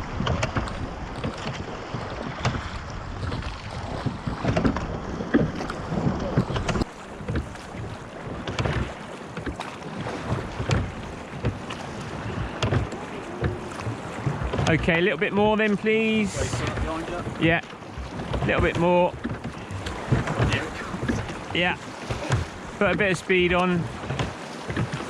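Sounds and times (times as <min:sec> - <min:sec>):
wind buffeting microphone: 0:00.0 - 0:09.0, 0:10.0 - 0:22.9
rushing water: 0:00.0 - 0:25.0
oars knocking in pins: 0:04.0 - 0:25.0.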